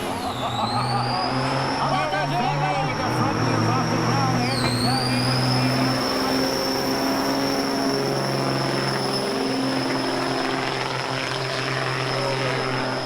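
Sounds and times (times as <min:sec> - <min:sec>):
high-pitched whine: 0:00.0 - 0:13.0
truck diesel engine running hard: 0:00.0 - 0:13.0.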